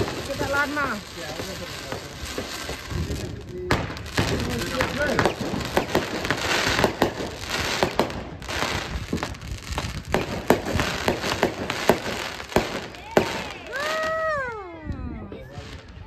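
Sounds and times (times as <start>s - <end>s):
fireworks crackling: 0.0s - 16.0s
fireworks pops and bangs: 0.0s - 16.0s.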